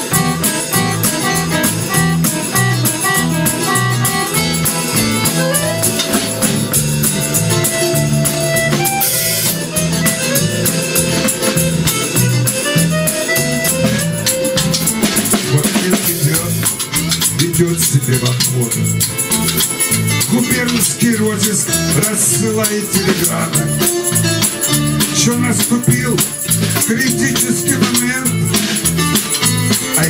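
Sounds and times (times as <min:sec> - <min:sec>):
accordion melody: 0:00.0 - 0:30.0.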